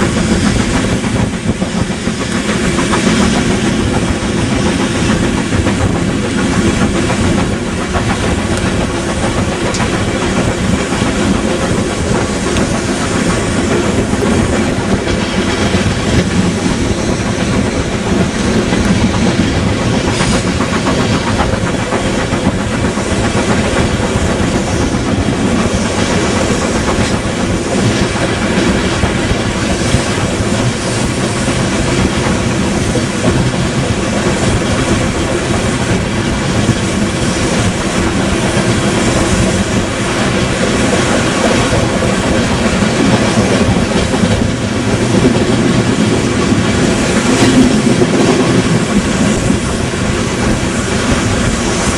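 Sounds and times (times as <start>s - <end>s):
train rumble: 0.0s - 51.9s
wheels clacking over rail joints: 0.0s - 51.9s.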